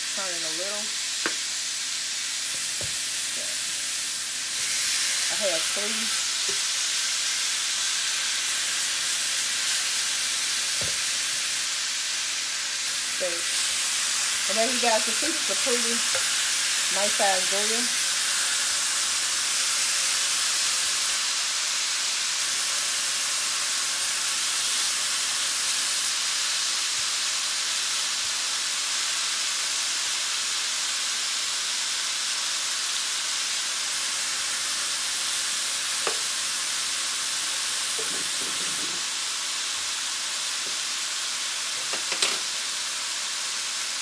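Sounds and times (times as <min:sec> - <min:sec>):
steaks sizzling on a grill: 0:00.0 - 0:44.0.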